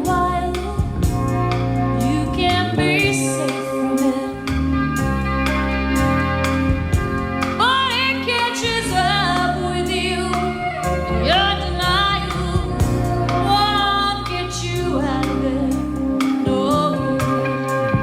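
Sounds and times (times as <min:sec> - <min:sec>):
woman singing with vibrato: 0:00.0 - 0:01.3, 0:01.9 - 0:04.9, 0:07.6 - 0:18.0
bass guitar: 0:00.0 - 0:18.0
drums: 0:00.0 - 0:18.0.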